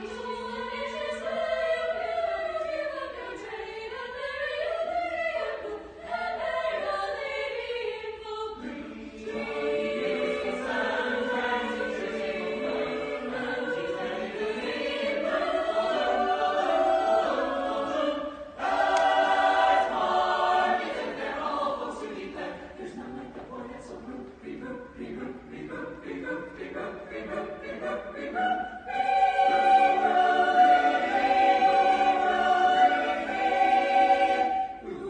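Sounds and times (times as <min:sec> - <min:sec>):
mixed choir singing a cappella: 0:00.0 - 0:35.0.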